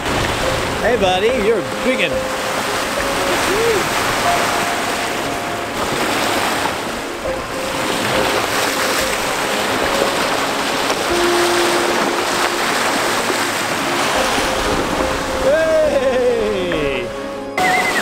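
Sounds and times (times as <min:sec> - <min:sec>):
water rushing along boat bow: 0:00.0 - 0:18.0
wind: 0:00.0 - 0:18.0.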